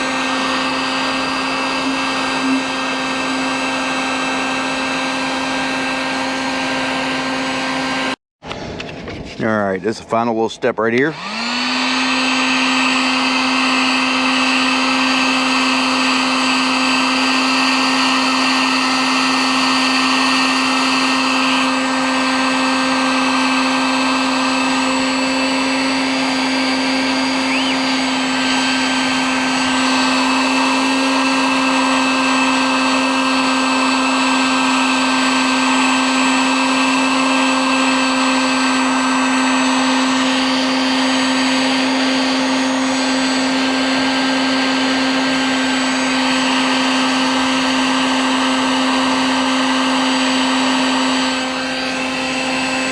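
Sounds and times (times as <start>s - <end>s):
heat gun fan whining: 0.0s - 52.9s.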